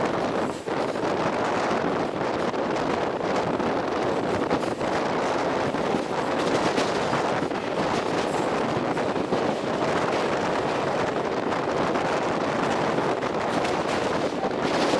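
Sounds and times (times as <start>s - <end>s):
train running on track: 0.0s - 14.9s
wind rushing over microphone: 0.0s - 14.9s.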